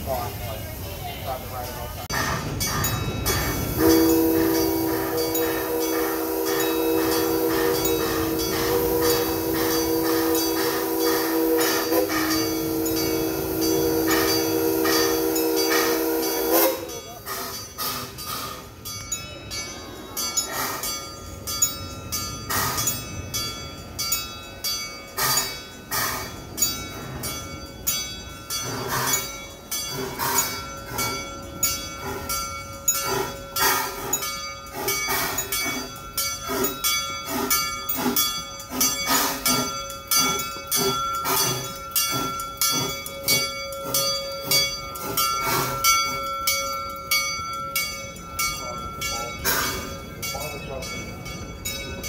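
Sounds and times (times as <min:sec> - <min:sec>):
steam locomotive chuffing: 0:00.0 - 0:52.0
bell ringing: 0:02.2 - 0:52.0.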